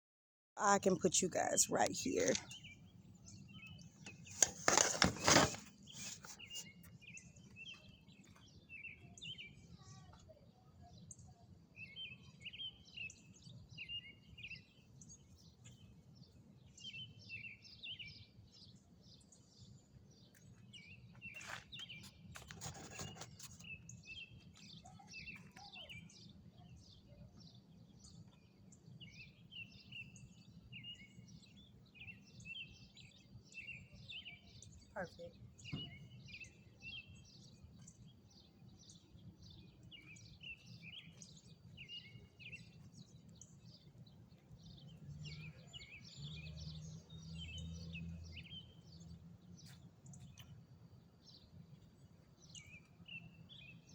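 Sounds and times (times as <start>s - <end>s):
small birds chirping: 0.6s - 53.9s.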